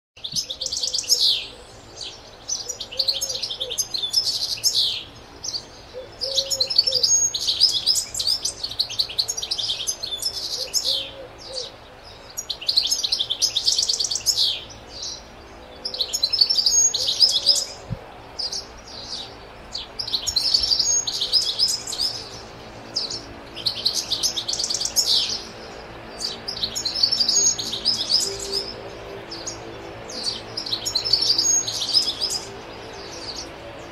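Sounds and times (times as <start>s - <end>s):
finch twittering song: 0.2s - 33.9s.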